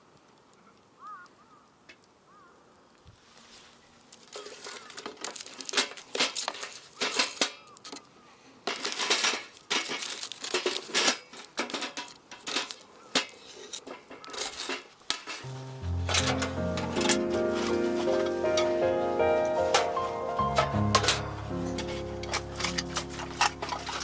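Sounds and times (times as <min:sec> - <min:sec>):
rustling and crinkling: 0:00.0 - 0:24.0.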